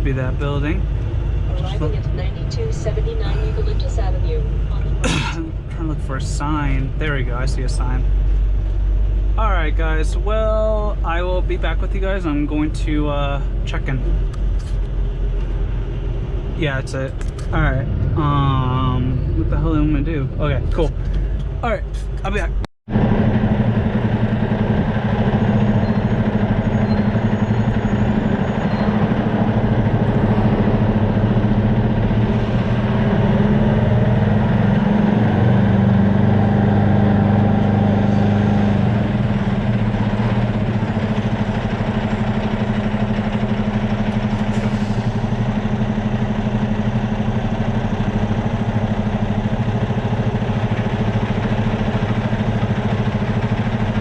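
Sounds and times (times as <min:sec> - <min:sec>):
truck diesel engine idling: 0:00.0 - 0:34.5, 0:35.7 - 0:54.0.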